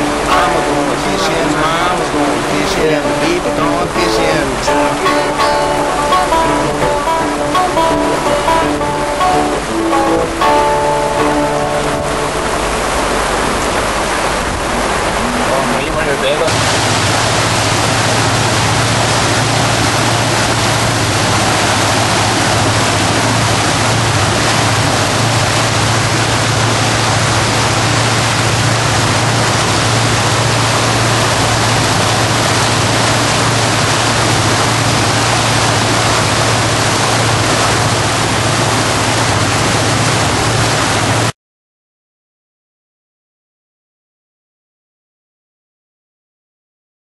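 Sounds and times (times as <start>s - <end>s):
boat engine drone: 0.0s - 41.3s
rushing wind and water: 0.0s - 41.4s.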